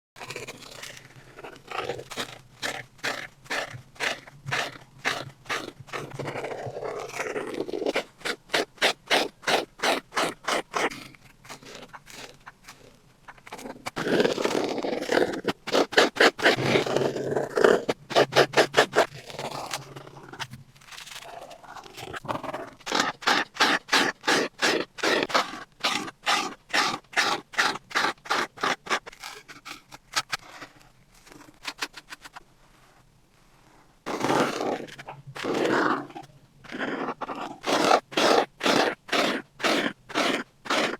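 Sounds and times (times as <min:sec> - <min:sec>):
art tool scraping on paper: 0:00.2 - 0:33.0, 0:34.1 - 0:40.9.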